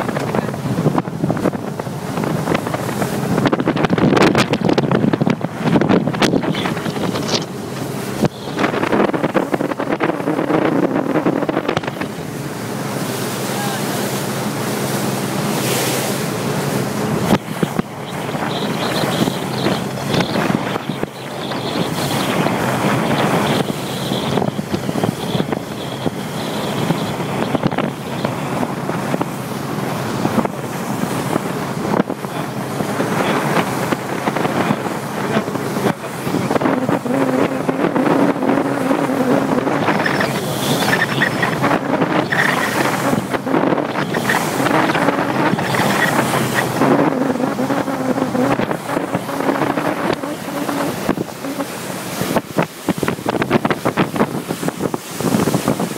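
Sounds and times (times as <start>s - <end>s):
wind buffeting microphone: 0.0s - 13.2s, 14.2s - 55.9s
speedboat engine running: 0.0s - 55.9s.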